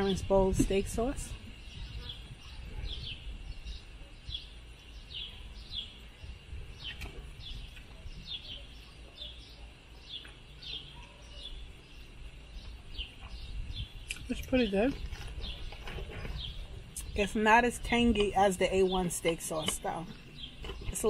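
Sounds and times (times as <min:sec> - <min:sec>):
small bird chirping: 0:01.4 - 0:21.0.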